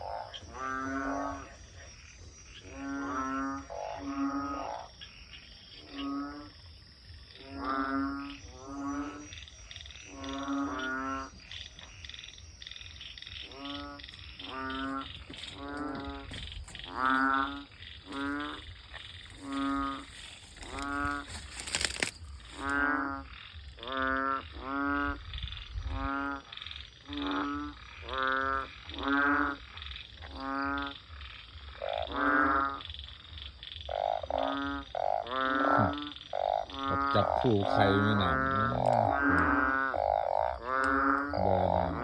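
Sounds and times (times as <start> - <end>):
frogs bleating calls: 0.0 - 42.0.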